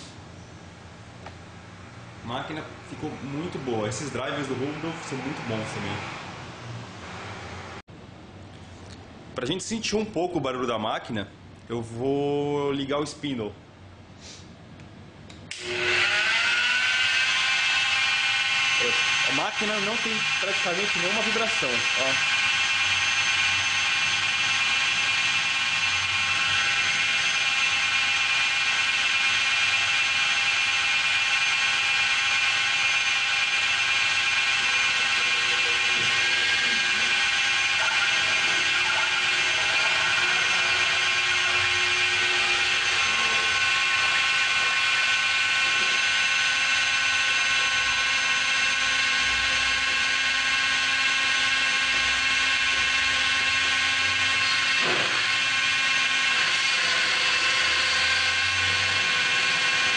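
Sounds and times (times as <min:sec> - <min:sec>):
die grinder high whine: 0:02.3 - 0:07.8, 0:15.5 - 0:59.9.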